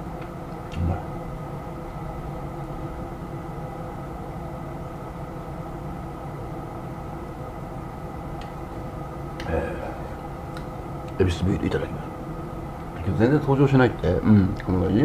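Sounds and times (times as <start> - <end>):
lantern burner hissing: 0.9 - 14.3.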